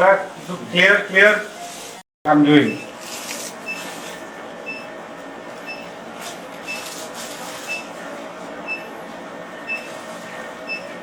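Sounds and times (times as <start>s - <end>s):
continuous machine hiss: 0.0s - 11.0s.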